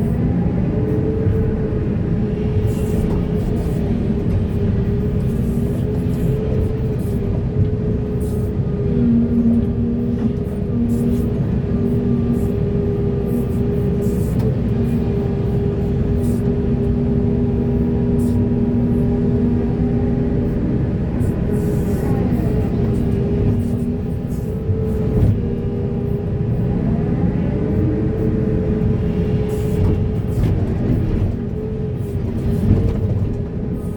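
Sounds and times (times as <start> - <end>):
diesel engines under load: 0.0 - 33.9.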